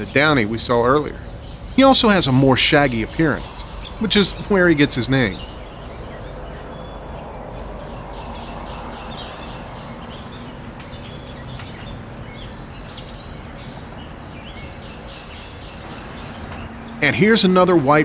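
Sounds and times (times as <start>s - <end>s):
faint bird calls: 0.0s - 18.0s
high insect drone: 0.0s - 18.0s.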